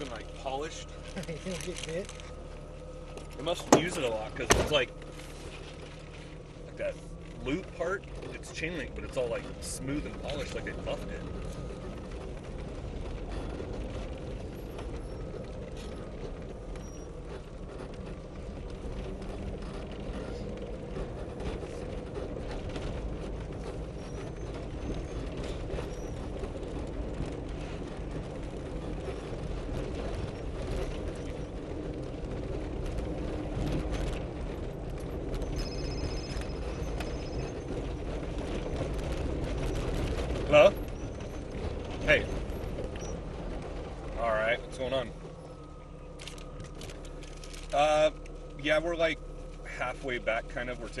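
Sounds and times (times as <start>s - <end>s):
vehicle body rattling and knocking: 0.0s - 51.0s
vehicle engine running: 0.0s - 51.0s.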